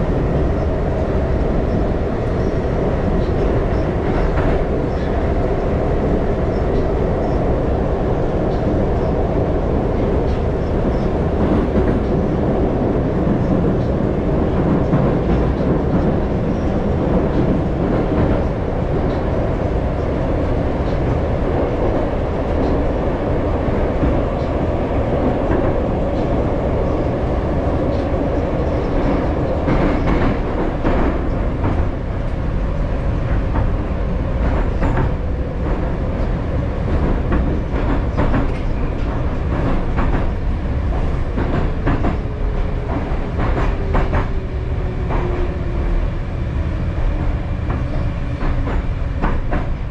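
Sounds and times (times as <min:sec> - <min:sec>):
train rumbling in tunnel: 0:00.0 - 0:49.9.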